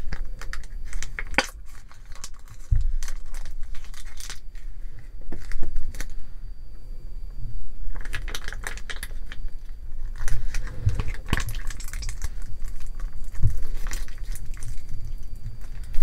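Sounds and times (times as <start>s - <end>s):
plastic sachet crinkling: 0.0s - 6.2s, 7.9s - 16.0s.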